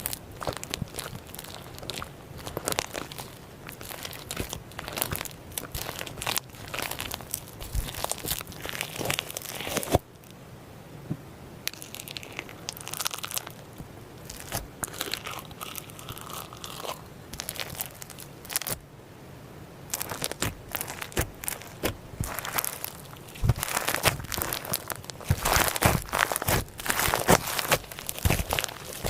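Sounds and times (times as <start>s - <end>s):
slime crackling and clicking: 0.0s - 10.0s, 11.7s - 13.6s, 14.2s - 18.8s, 19.9s - 29.0s.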